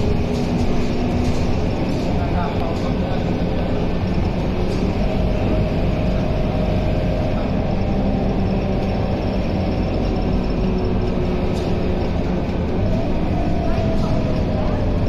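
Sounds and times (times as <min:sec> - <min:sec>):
bus diesel engine running: 0:00.0 - 0:15.0
road and tyre noise: 0:00.0 - 0:15.0.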